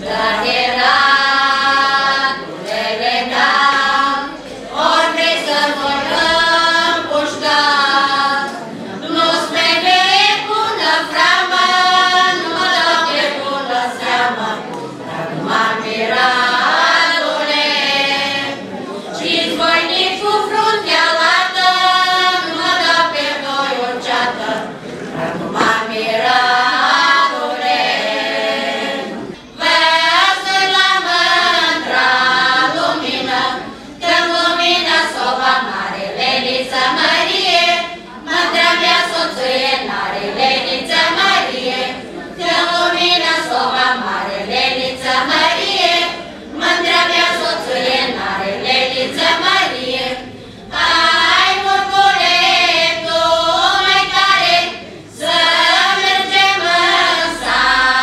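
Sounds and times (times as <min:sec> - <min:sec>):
women singing unaccompanied: 0:00.0 - 0:58.0.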